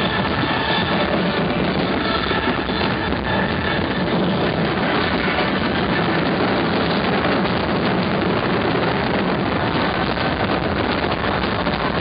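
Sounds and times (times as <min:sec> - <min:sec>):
fireworks bangs and crackle: 0:00.0 - 0:12.0.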